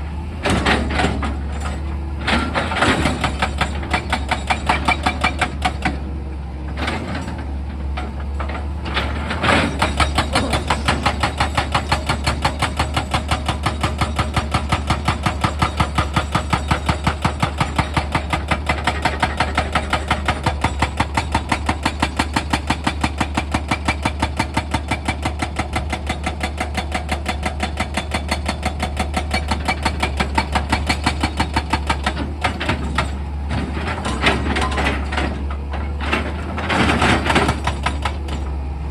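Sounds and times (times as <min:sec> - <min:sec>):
hydraulic breaker hammering stone: 0:02.4 - 0:06.1, 0:09.0 - 0:38.6.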